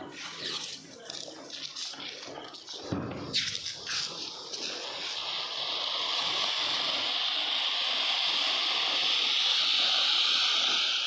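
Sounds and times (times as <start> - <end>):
firework hissing: 0.0 - 11.0.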